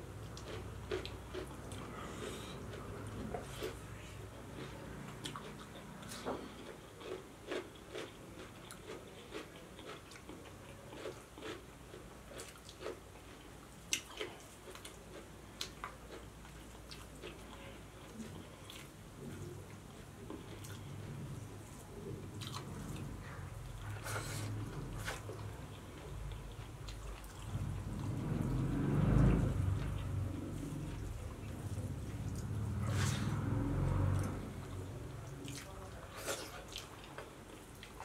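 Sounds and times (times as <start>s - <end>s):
people chewing food: 0.0s - 38.0s.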